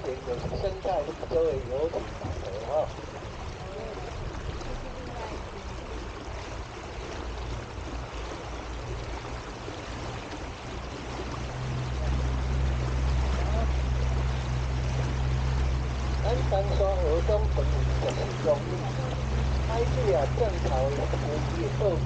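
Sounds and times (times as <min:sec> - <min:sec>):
low steady hum: 0:00.0 - 0:22.0
water swishing along hull: 0:00.0 - 0:22.0.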